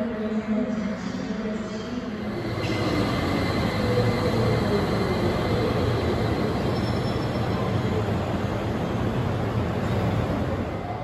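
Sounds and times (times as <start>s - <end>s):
light-rail train running: 0.0s - 11.0s.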